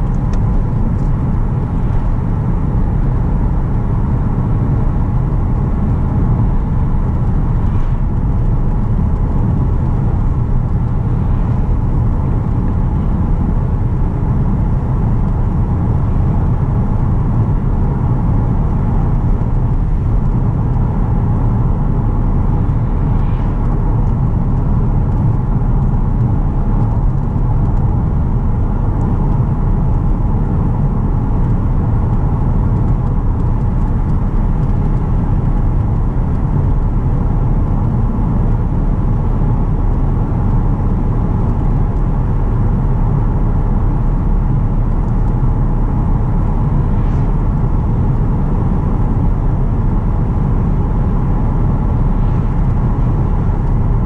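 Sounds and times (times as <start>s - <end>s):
car engine droning: 0.0s - 54.0s
tyres on road: 0.0s - 54.0s
wind noise: 0.0s - 54.0s.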